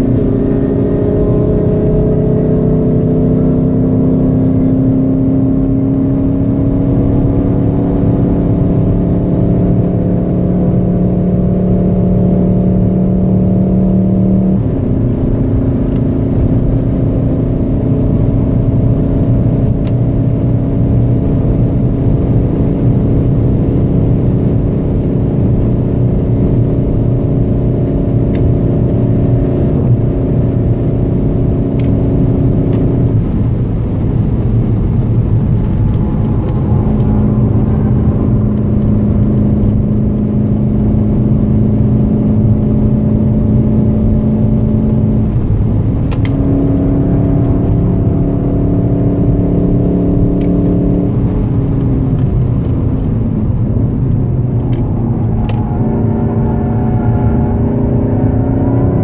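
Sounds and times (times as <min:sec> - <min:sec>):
car engine drone: 0:00.0 - 0:59.0
road and tyre noise: 0:00.0 - 0:59.0.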